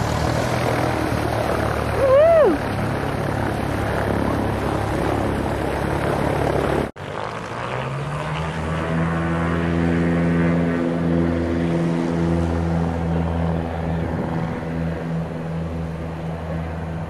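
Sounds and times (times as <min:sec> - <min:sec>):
light airplane engine and propeller: 0:00.0 - 0:17.0.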